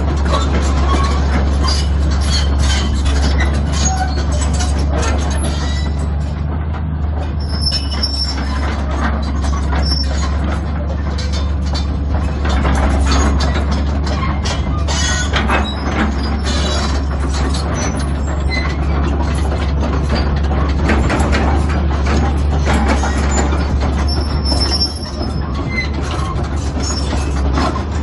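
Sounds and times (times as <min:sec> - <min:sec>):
excavator diesel engine running: 0:00.0 - 0:28.0
steel tracks clanking: 0:00.0 - 0:28.0.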